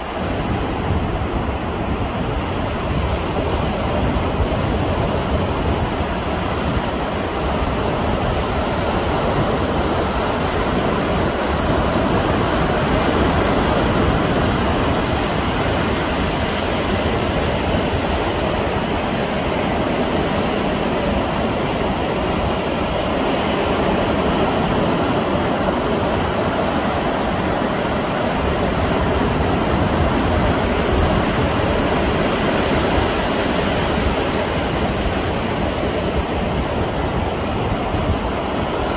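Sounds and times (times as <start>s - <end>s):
sea surf rushing: 0.0s - 38.9s
wind: 0.0s - 38.9s.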